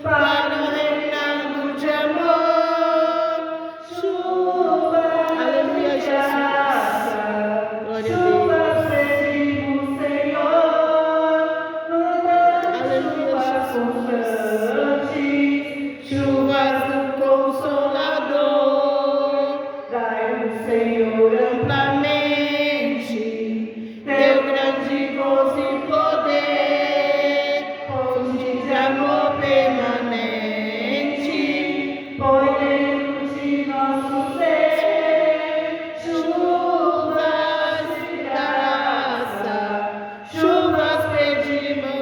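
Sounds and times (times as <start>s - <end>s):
group singing a hymn: 0.0s - 42.0s.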